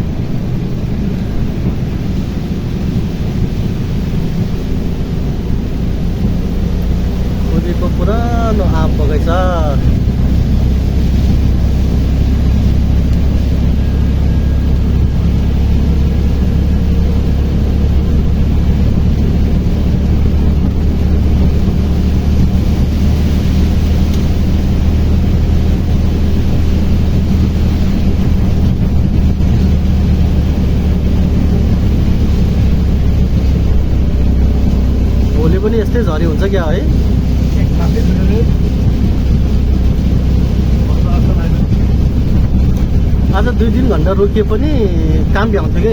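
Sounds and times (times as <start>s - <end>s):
auto-rickshaw engine droning: 0.0s - 45.9s.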